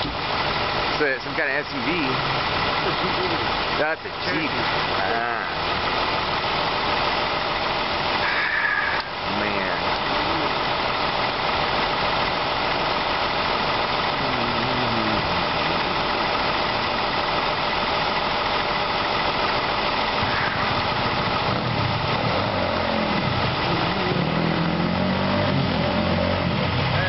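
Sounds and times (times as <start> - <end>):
vehicle engines idling: 0.0 - 27.0.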